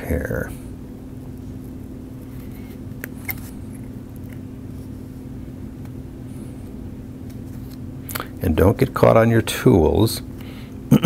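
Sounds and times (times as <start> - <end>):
faint constant tone: 0.0 - 11.0
low room hum: 0.0 - 11.0.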